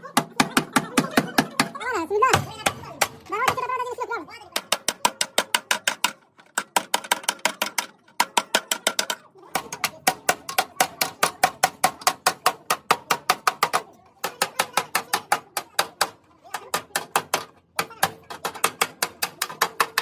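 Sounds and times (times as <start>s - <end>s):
rapid hammer blows on metal: 0.1s - 4.0s, 4.6s - 20.0s.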